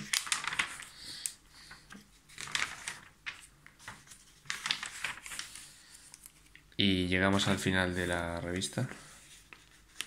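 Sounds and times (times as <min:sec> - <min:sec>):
magazine pages turning: 0:00.0 - 0:10.0.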